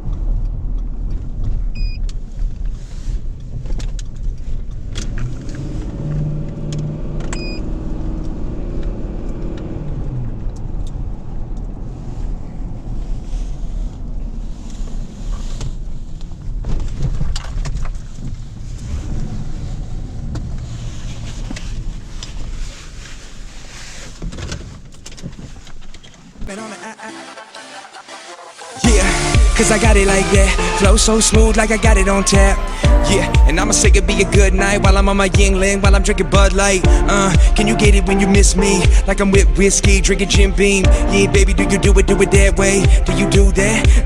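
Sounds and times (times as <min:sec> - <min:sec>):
car engine and road rumble: 0:00.0 - 0:26.5, 0:28.8 - 0:44.0.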